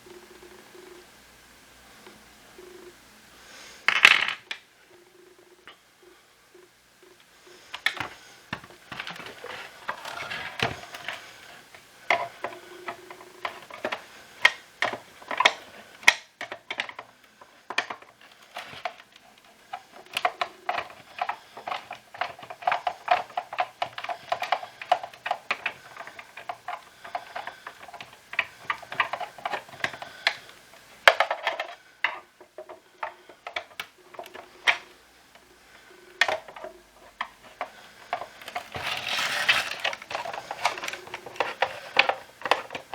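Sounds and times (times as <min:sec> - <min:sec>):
plastic parts clicking and rattling: 0:03.8 - 0:04.7, 0:07.1 - 0:42.9
plastic scraping: 0:06.6 - 0:42.9.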